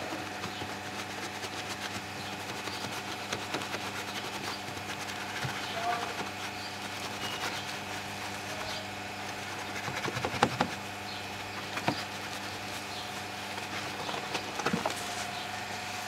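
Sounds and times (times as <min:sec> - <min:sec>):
wash mitt rubbing and squelching: 0:00.0 - 0:15.4
steady low hum: 0:00.0 - 0:16.0.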